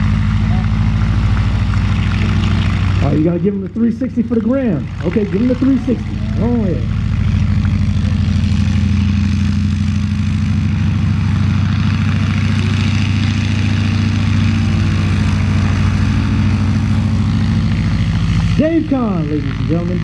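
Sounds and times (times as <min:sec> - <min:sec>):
biplane engine running: 0:00.0 - 0:20.0.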